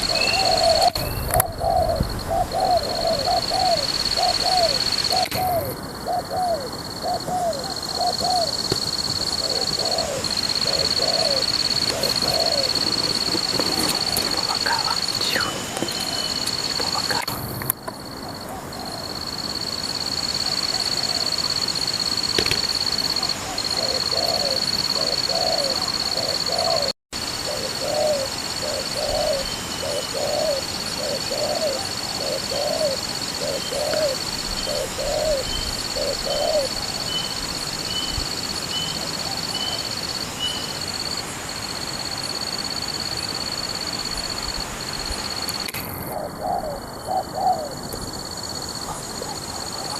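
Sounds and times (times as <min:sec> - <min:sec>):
doves cooing: 0:00.0 - 0:39.8, 0:45.3 - 0:49.9
steady high-pitched drone: 0:00.0 - 0:49.9.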